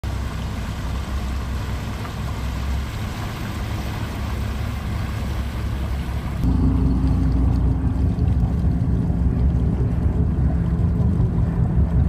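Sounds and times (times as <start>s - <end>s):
boat engines idling: 0.1s - 12.0s.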